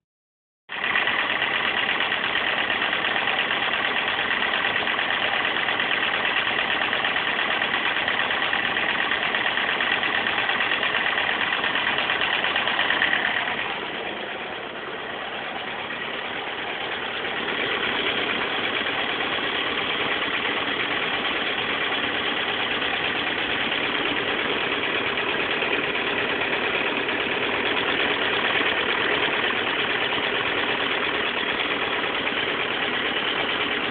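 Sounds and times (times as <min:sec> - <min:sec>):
motorcycle engine running: 0:00.7 - 0:33.9.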